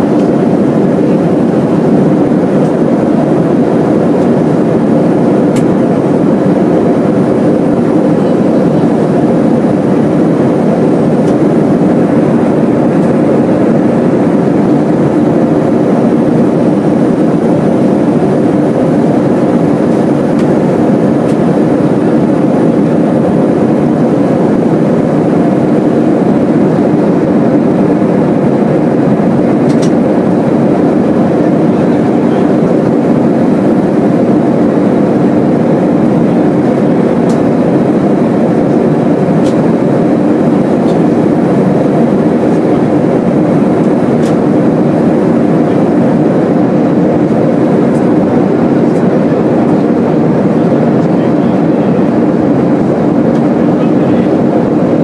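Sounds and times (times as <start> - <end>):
airflow rushing past fuselage: 0.0 - 55.0
jet engines droning: 0.0 - 55.0.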